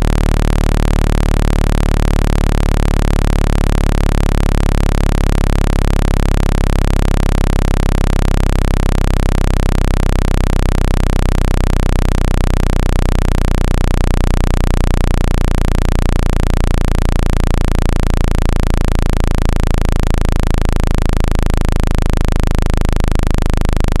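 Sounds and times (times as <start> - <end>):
deep buzz through phone speaker: 0.0 - 24.0.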